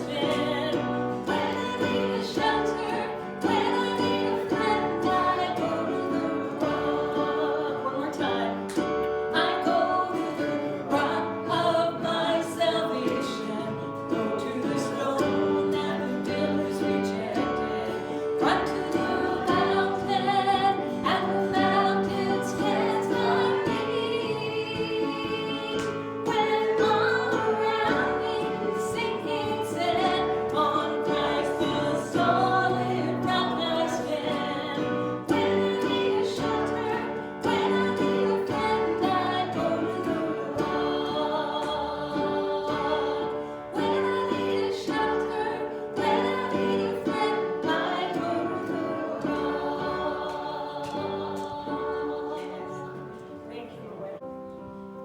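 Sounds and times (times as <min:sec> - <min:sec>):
group singing a worship song: 0:00.0 - 0:53.4
instrumental accompaniment: 0:00.0 - 0:55.0.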